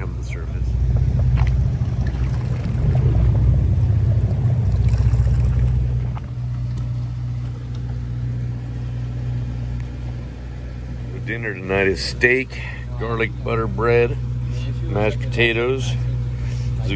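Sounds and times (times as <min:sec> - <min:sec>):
boat engine droning: 0:00.0 - 0:16.9.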